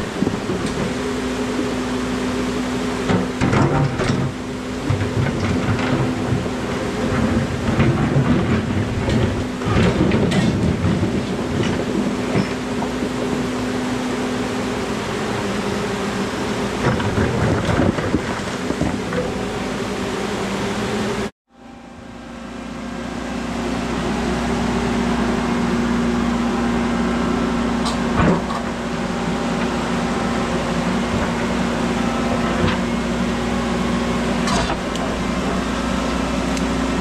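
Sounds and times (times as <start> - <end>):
excavator diesel engine: 0.0 - 37.0.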